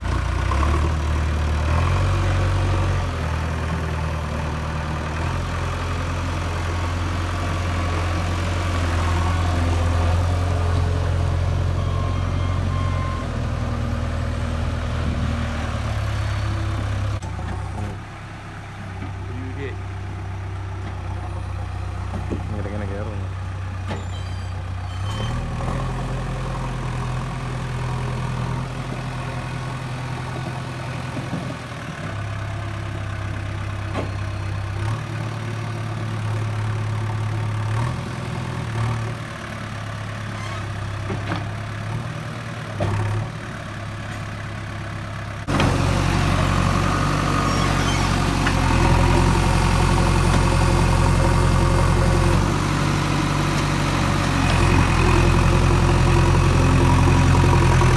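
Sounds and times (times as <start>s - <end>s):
diesel engine under changing load: 0.0s - 57.9s.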